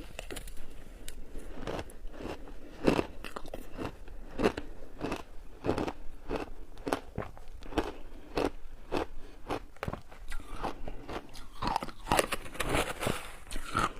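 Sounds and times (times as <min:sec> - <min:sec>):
ice being chewed: 0:00.0 - 0:13.9.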